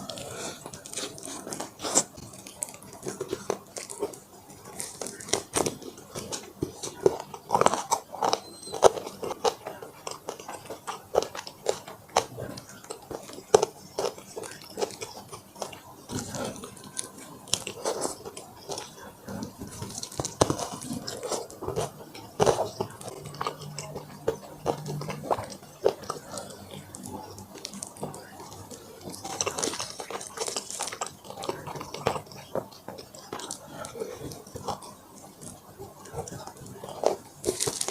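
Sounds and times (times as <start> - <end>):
crunching and chewing fried chicken: 0.0 - 37.9.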